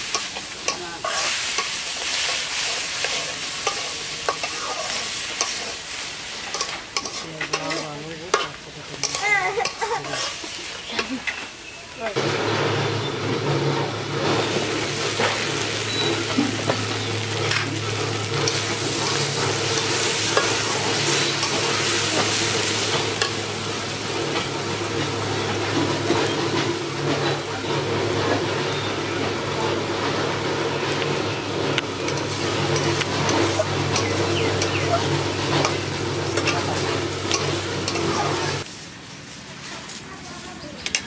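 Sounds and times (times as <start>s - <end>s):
metal spatula scraping a pan: 0.0s - 11.8s, 13.4s - 38.7s
onions sizzling in hot oil: 0.0s - 41.0s.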